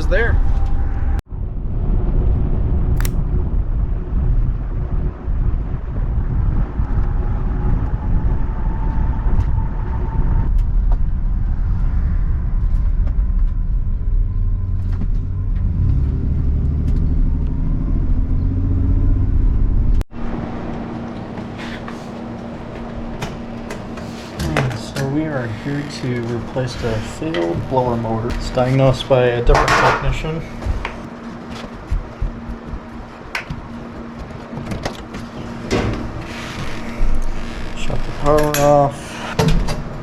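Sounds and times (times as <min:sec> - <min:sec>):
road and engine rumble: 0:00.0 - 0:40.0.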